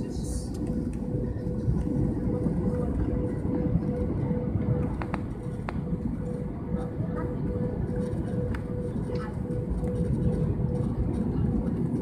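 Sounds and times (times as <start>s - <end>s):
airliner cabin engine rumble: 0.0s - 12.0s
constant hum: 0.0s - 12.0s.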